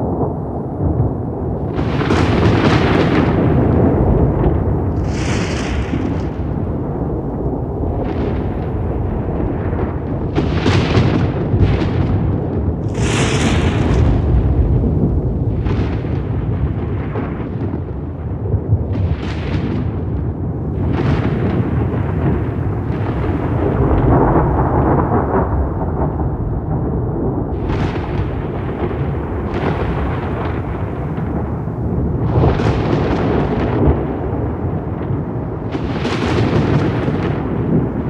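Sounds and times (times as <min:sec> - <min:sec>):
thunder cracks: 0:00.0 - 0:38.0
thunder rumbling: 0:00.0 - 0:38.0.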